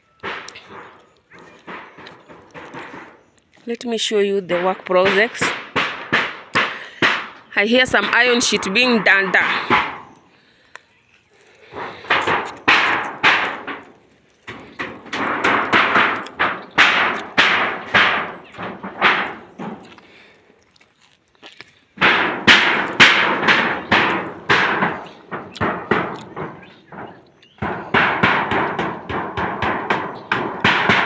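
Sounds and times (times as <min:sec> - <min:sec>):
hammering on metal roofing: 0:00.0 - 0:03.3, 0:04.5 - 0:10.4, 0:11.6 - 0:20.3, 0:22.0 - 0:31.0.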